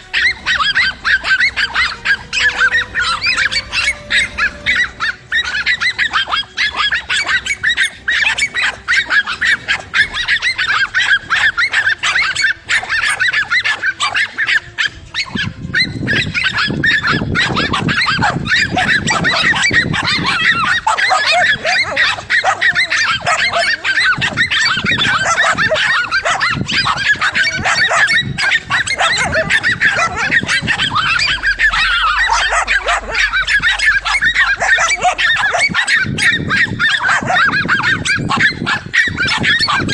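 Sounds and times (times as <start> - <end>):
chorus of animal calls: 0.0 - 39.9.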